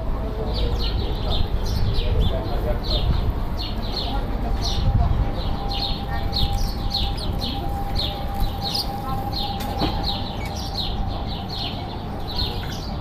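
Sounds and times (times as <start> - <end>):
sparrows chirping: 0.1 - 13.0.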